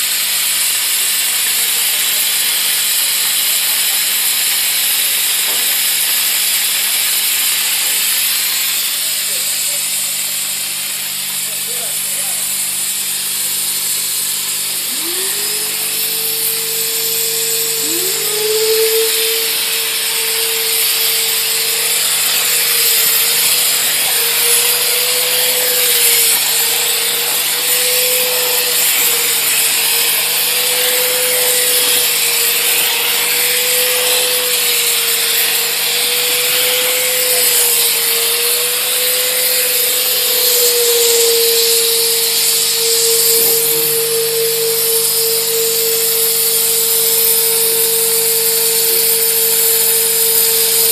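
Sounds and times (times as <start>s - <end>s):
hiss of steam and suction: 0.0s - 50.9s
vacuum motor whine: 9.2s - 50.9s.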